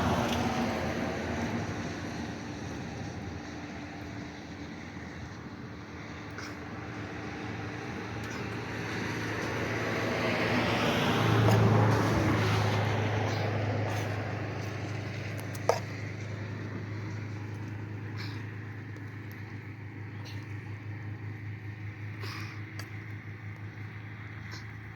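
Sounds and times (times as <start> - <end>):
steady low hum: 0.0 - 24.9
vehicle passing by: 0.0 - 24.9.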